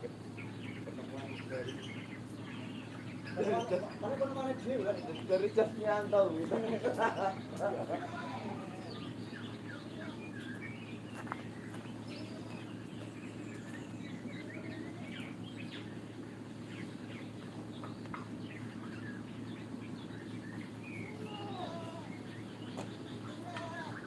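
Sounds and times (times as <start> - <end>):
low background hum: 0.0 - 24.0
small birds chirping: 0.0 - 24.0.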